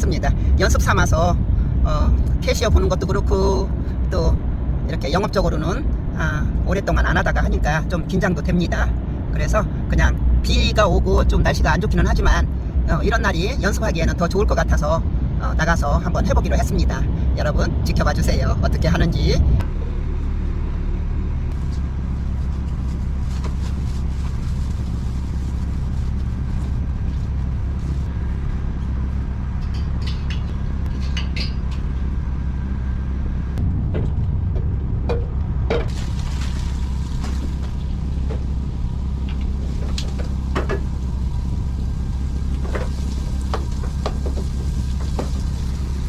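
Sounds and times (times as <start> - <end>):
engine and road rumble: 0.0 - 46.0.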